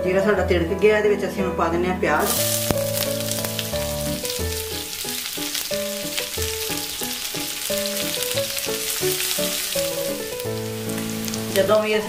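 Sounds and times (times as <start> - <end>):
background music: 0.0 - 12.0
onions sizzling in oil: 2.2 - 12.0.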